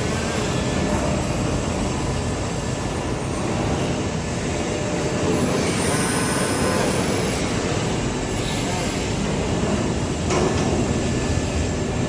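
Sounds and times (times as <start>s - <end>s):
industrial machinery drone: 0.0s - 12.0s.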